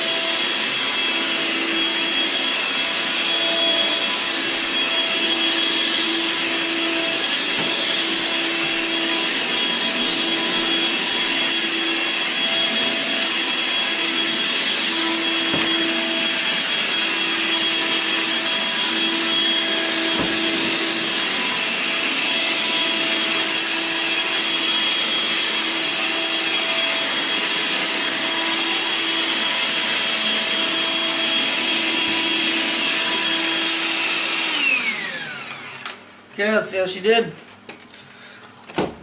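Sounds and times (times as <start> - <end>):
vacuum cleaner running: 0.0 - 36.3.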